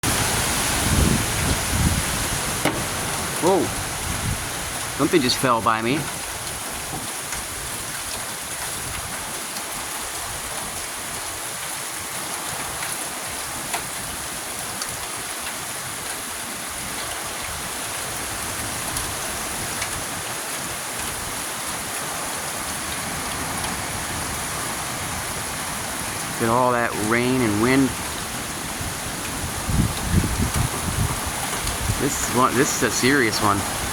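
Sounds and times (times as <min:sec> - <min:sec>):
heavy rain pouring: 0:00.0 - 0:33.9
raindrops ticking on surfaces: 0:00.0 - 0:33.9
wind: 0:00.0 - 0:33.9.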